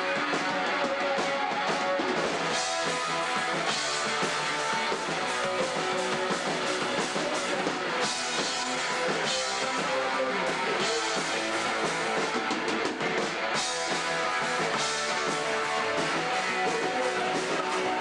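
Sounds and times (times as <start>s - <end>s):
drum kit: 0.0s - 18.0s
electric guitars: 0.0s - 18.0s.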